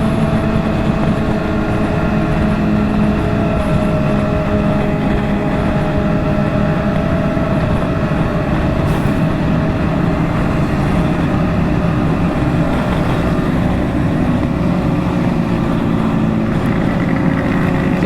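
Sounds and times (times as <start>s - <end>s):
motorcycle engine cruising: 0.0s - 18.0s
road and wind noise: 0.0s - 18.0s.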